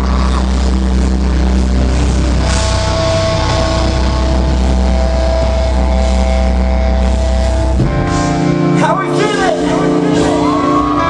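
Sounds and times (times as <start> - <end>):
high held guitar note: 0.0 - 11.0
rock band playing loudly: 0.0 - 11.0.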